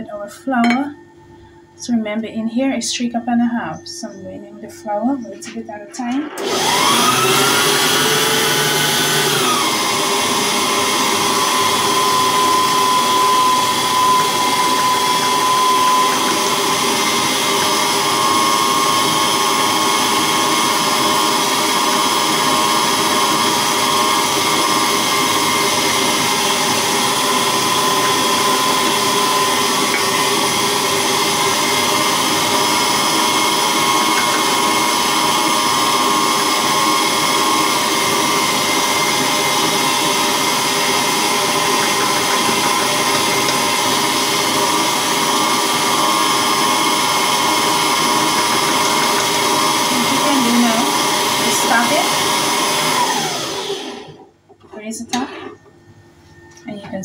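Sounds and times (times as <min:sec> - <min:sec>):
stand mixer motor whining: 0:06.2 - 0:54.3.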